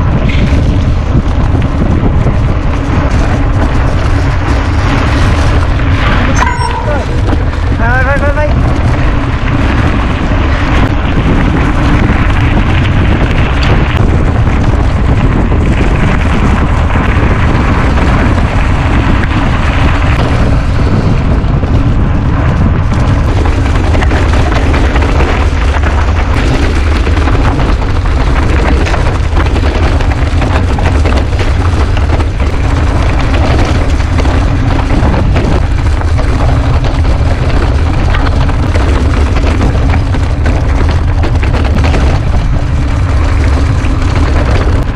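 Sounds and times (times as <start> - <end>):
bike rattling over trail: 0.0 - 44.9
wind buffeting microphone: 0.0 - 44.9.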